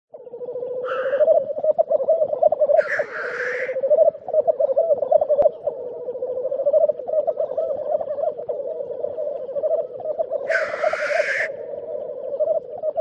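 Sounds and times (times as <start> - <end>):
grouse bubbling cooing song: 0.1 - 13.0
grouse hissing calls: 0.4 - 13.0.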